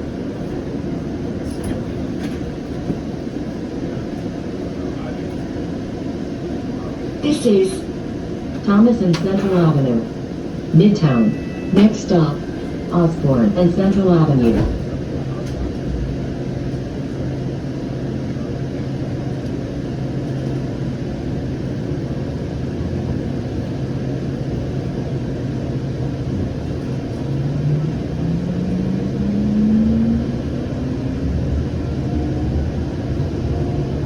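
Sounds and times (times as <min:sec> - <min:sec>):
light rail car rolling hum: 0:00.0 - 0:34.0.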